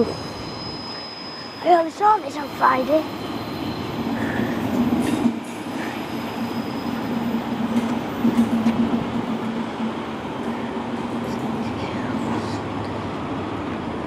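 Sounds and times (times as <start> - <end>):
locomotive low drone: 0.0 - 14.0.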